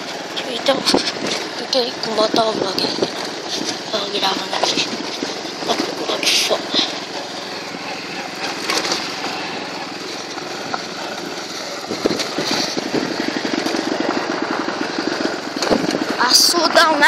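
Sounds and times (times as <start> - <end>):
motorcycle engine running: 0.0 - 17.0
steady rushing noise: 0.0 - 17.0.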